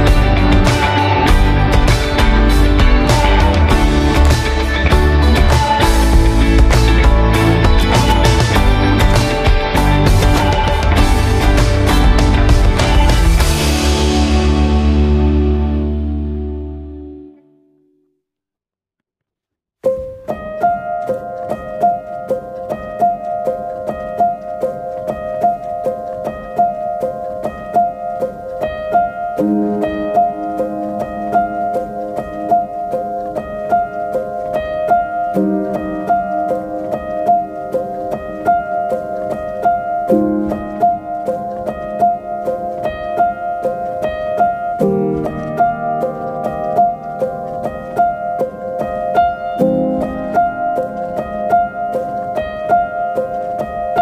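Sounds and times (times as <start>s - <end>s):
piano music: 0.0s - 18.0s, 19.8s - 54.0s.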